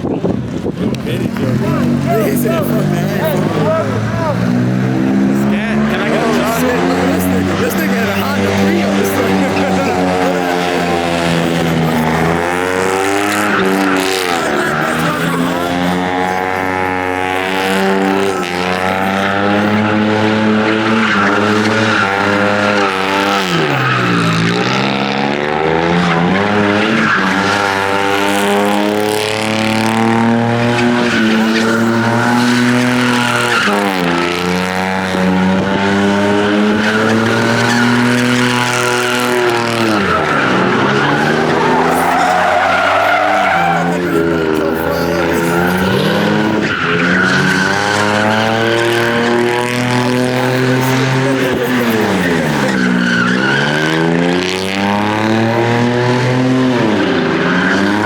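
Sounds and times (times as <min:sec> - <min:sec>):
car engine revving: 0:00.0 - 0:58.0
tyres spinning and squealing: 0:00.0 - 0:58.0.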